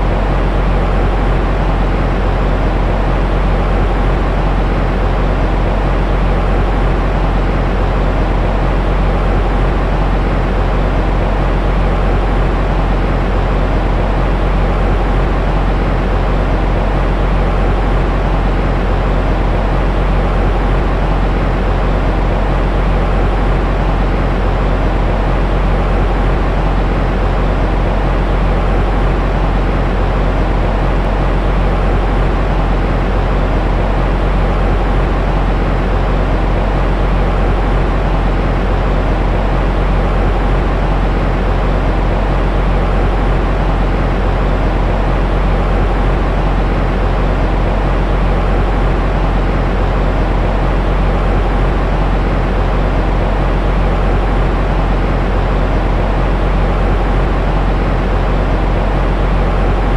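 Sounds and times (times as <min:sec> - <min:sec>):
deep rumbly steady noise: 0:00.0 - 0:59.9.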